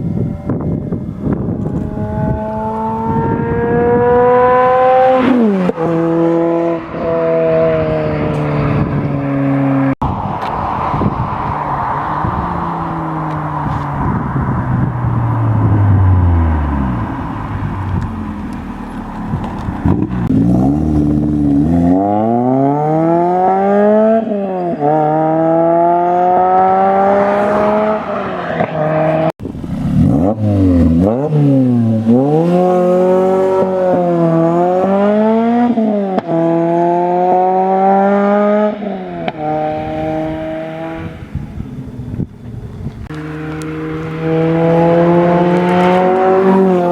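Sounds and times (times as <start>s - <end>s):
car engine accelerating hard: 0.1s - 10.0s, 10.9s - 46.9s.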